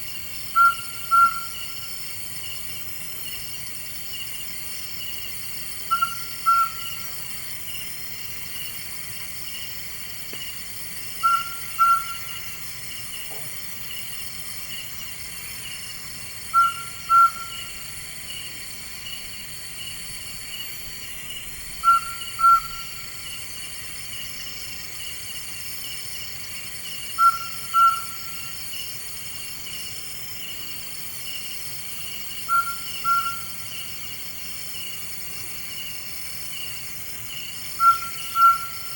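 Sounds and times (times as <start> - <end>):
night insects chorus: 0.0 - 38.9.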